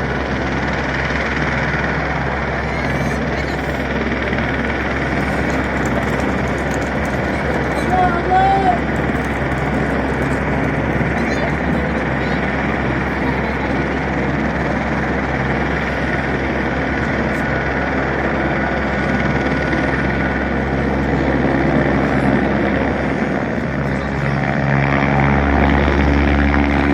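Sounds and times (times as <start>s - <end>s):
helicopter engine and rotor: 0.0s - 26.9s.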